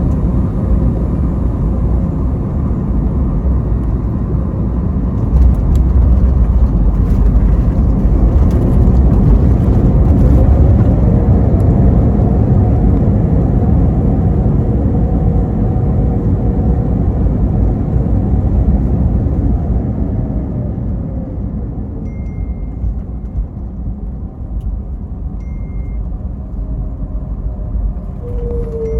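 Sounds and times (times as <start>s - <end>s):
jet engine whine: 0.0s - 28.9s
wheels rumbling on runway: 0.0s - 28.9s.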